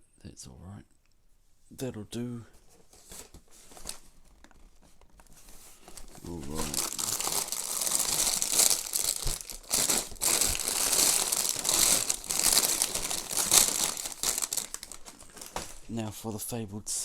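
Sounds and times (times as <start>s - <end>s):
plastic bags rustling: 2.7s - 16.4s.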